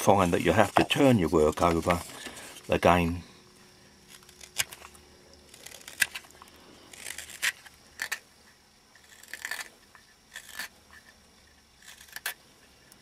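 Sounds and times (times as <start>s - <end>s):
knife scraping wood: 0.0s - 3.0s, 4.0s - 12.4s.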